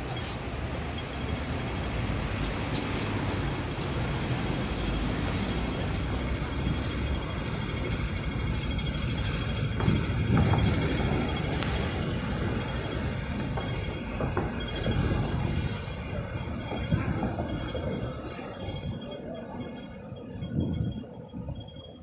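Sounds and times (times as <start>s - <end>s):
cars and buses passing: 0.0s - 22.0s.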